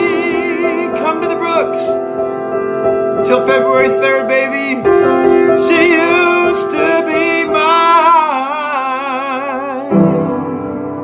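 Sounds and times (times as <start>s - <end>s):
man singing a long note with vibrato: 0.0s - 2.0s, 3.2s - 10.4s
piano accompaniment: 0.0s - 11.0s.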